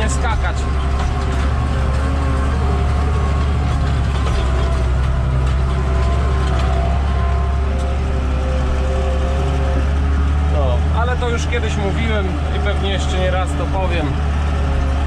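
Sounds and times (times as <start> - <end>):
tractor engine drone: 0.0 - 15.0.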